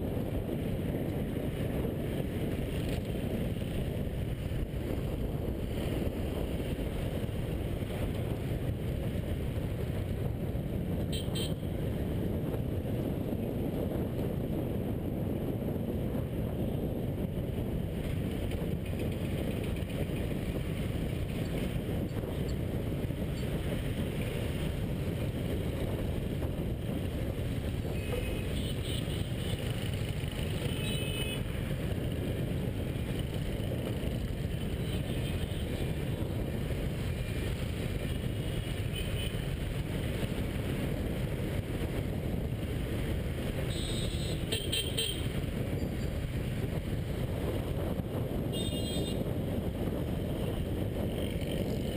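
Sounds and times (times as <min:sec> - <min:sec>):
scooter and car traffic: 0:00.0 - 0:51.9
wind and road noise: 0:00.0 - 0:51.9.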